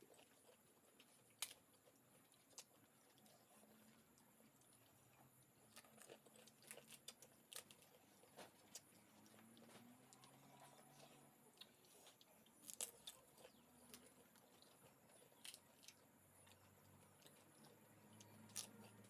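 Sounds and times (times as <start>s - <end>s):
soft chewing clicks: 0.0s - 19.0s.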